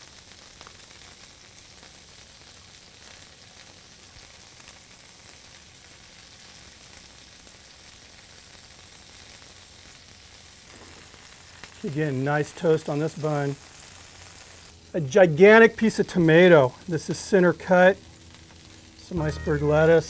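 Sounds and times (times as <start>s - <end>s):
burger patties sizzling on griddle: 0.0s - 20.0s.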